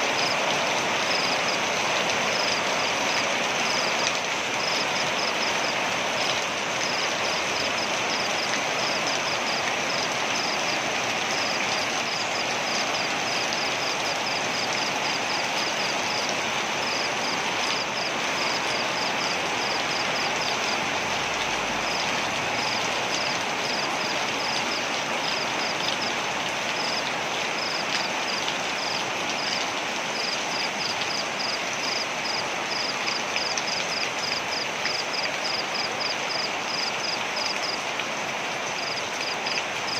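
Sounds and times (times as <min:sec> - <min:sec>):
waterfall rushing: 0:00.0 - 0:34.6.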